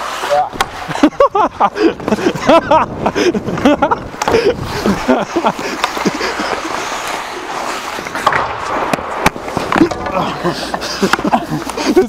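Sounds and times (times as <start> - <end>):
skate blades scraping on ice: 0.0 - 12.0
players calling out: 0.2 - 12.0.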